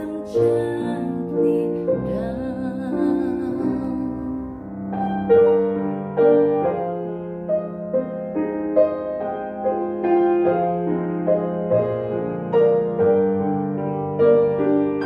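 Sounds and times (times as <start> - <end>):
slow solo piano melody: 0.0 - 15.0.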